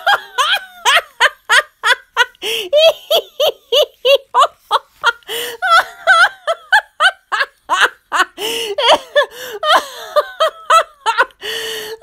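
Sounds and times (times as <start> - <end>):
woman laughing in high bursts: 0.0 - 11.5.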